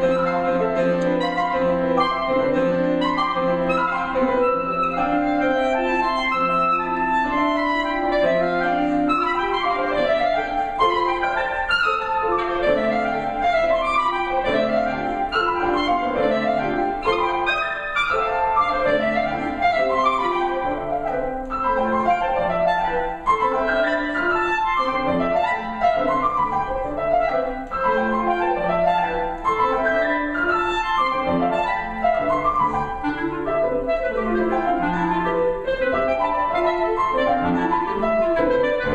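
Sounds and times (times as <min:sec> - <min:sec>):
clarinet: 0:00.0 - 0:38.9
piano: 0:00.0 - 0:38.9.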